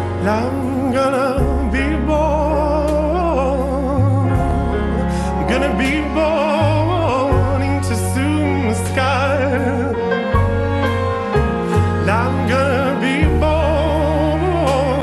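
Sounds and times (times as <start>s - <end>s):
man singing with vibrato: 0.0s - 10.9s, 11.7s - 15.0s.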